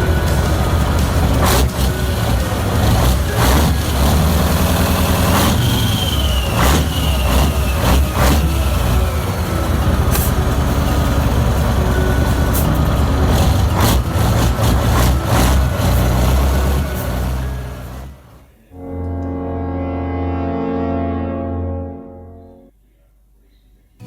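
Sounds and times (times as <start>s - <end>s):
diesel truck engine droning: 0.0s - 22.7s.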